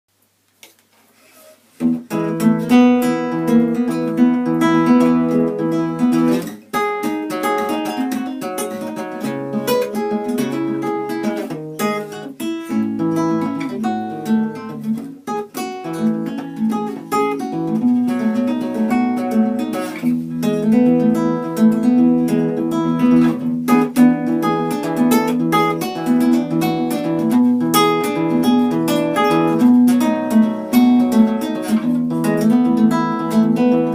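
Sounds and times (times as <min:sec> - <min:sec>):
fast plucked string instrument: 0:01.9 - 0:33.9.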